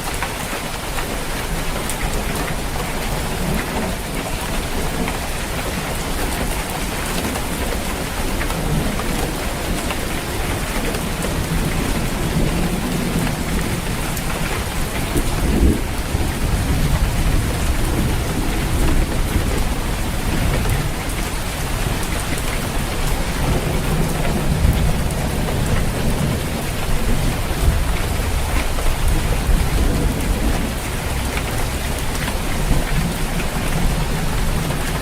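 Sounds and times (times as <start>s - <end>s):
heavy rain drumming on a roof: 0.0s - 35.0s
low rolling thunder: 2.2s - 35.0s.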